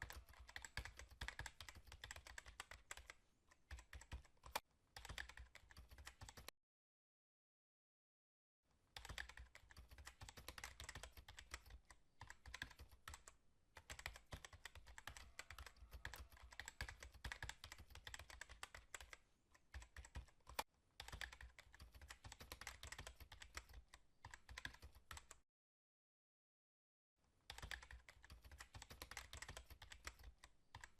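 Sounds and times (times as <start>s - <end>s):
rapid keyboard typing: 0.0s - 6.5s, 9.0s - 25.4s, 27.5s - 30.9s.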